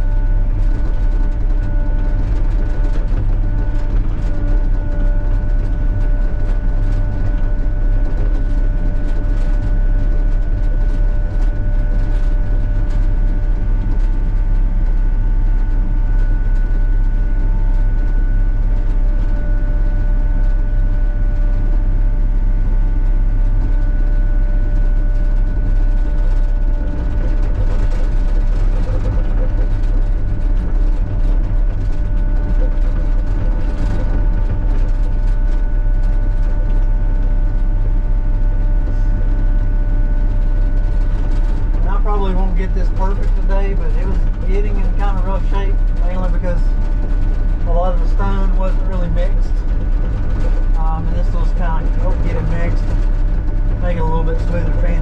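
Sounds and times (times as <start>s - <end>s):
excavator engine drone: 0.0s - 55.0s.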